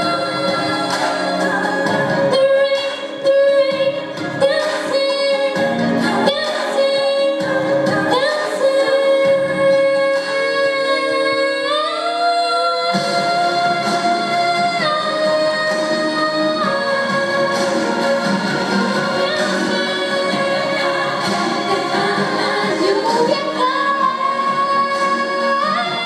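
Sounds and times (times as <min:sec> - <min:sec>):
musical accompaniment: 0:00.0 - 0:26.0
woman singing: 0:00.0 - 0:26.0.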